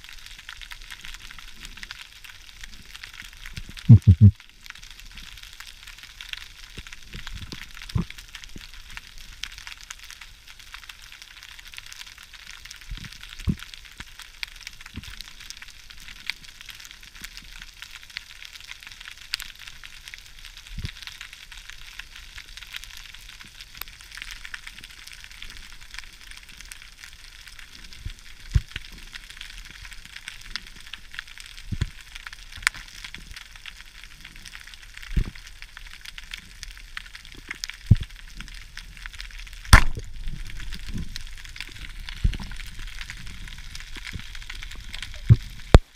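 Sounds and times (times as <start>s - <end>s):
fizzing underwater crackle: 0.0s - 45.9s.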